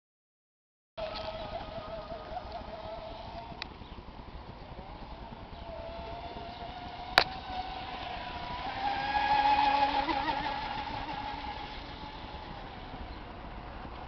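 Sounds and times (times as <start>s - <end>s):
model boat motor whining: 1.0s - 14.0s.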